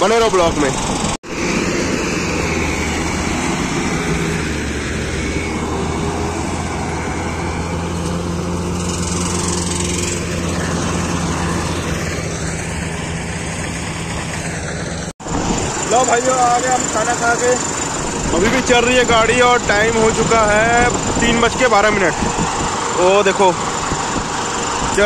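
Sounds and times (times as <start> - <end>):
harvester machinery noise: 0.0 - 25.0
tractor engine humming: 0.0 - 25.0.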